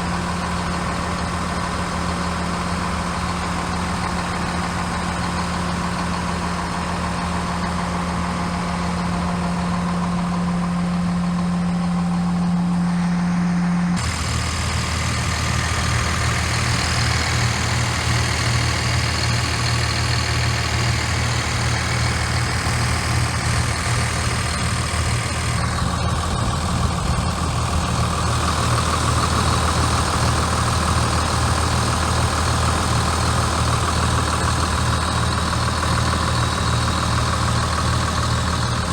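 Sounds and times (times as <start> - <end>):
machine engine running: 3.0 - 38.9.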